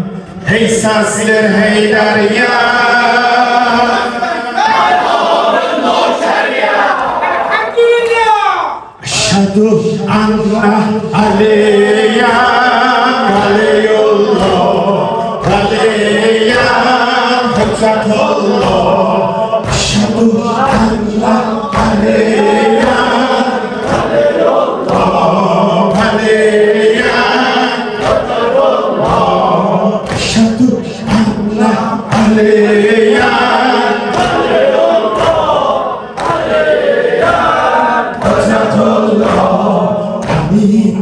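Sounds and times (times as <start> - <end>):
men chanting in unison: 0.0 - 7.5, 9.0 - 41.0.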